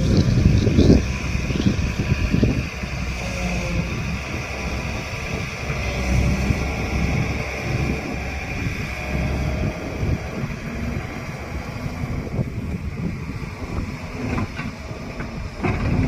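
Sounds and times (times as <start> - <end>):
excavator diesel engine rumbling: 0.0 - 16.0.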